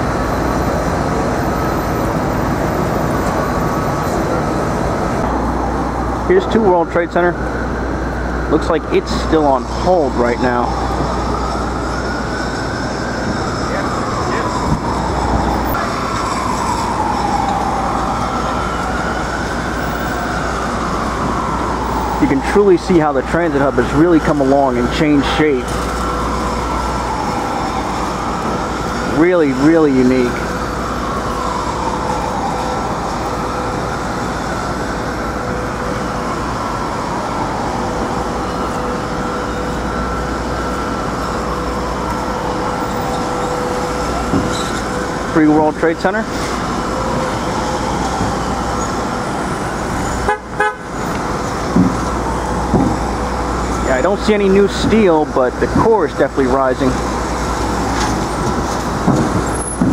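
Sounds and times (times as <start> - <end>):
city traffic noise: 0.0 - 59.9
high whine shifting in pitch: 0.0 - 59.9.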